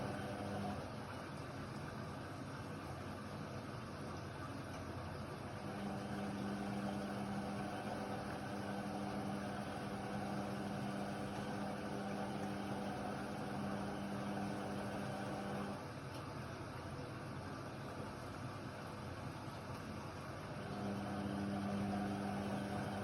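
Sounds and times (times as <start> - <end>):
washing machine motor humming: 0.0 - 23.0.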